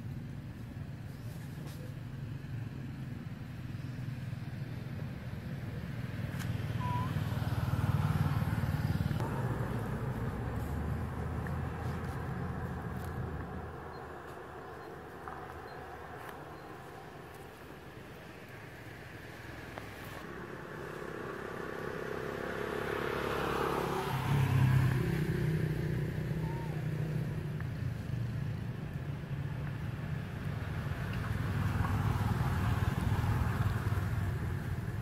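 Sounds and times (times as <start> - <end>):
vehicle engine droning: 0.0 - 35.0.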